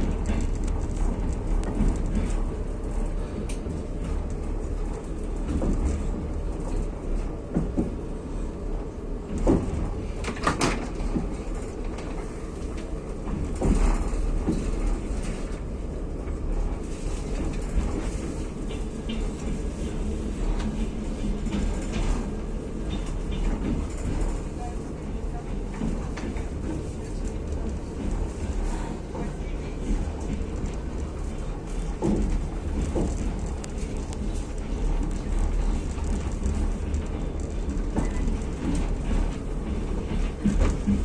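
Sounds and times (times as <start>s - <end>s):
train carriage rumbling on rails: 0.0s - 41.0s.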